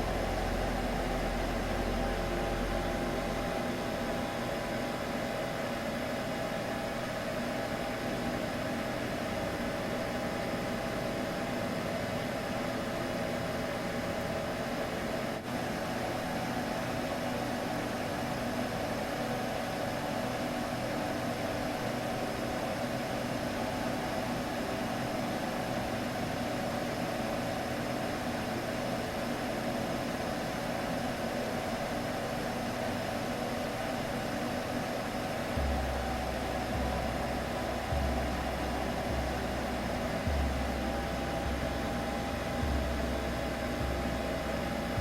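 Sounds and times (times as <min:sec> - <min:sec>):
constant low hum: 0:00.0 - 0:45.0
white noise hiss: 0:00.0 - 0:45.0.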